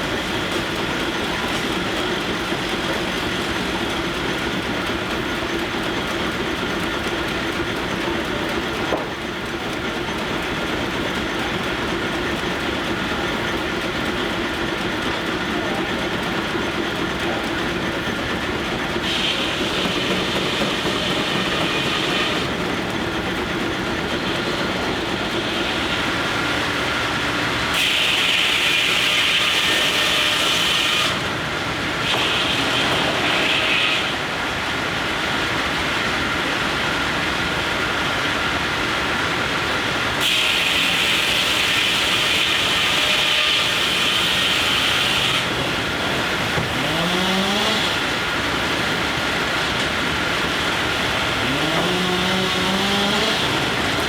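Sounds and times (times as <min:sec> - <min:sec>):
saw blade whining through logs: 0:00.0 - 0:35.0, 0:40.2 - 0:54.0
sawmill clatter: 0:00.0 - 0:54.0.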